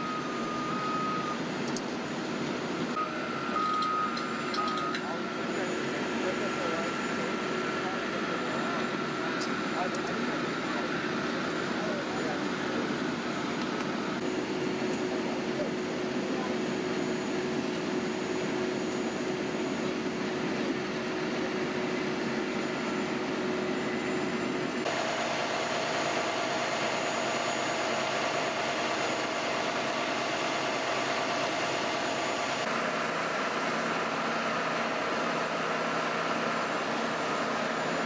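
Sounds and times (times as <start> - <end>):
fire engine motors idling: 0.0 - 38.0.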